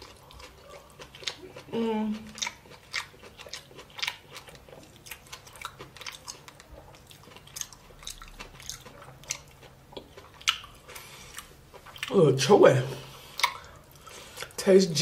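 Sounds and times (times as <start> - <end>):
person chewing food: 0.0 - 14.6.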